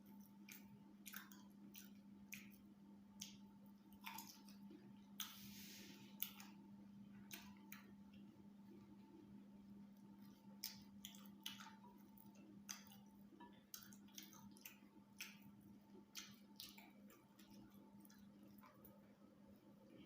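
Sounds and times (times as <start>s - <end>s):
low electrical hum: 0.0s - 20.0s
wet chewing and lip smacks: 0.0s - 20.0s.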